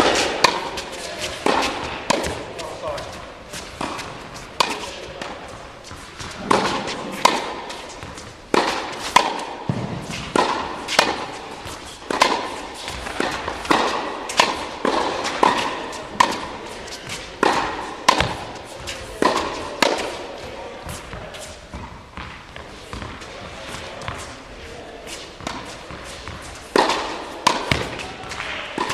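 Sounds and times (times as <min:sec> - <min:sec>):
tennis balls struck and bouncing: 0:00.0 - 0:28.9.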